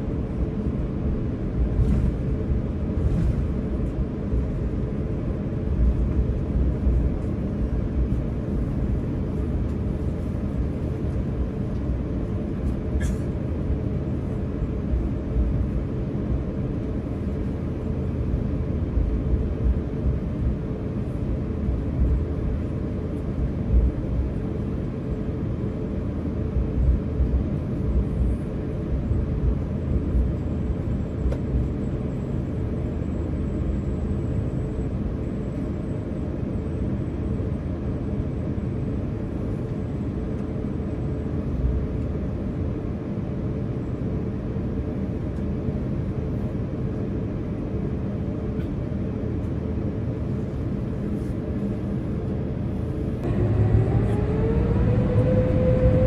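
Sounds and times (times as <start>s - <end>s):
aircraft cabin rumble: 0.0s - 56.0s.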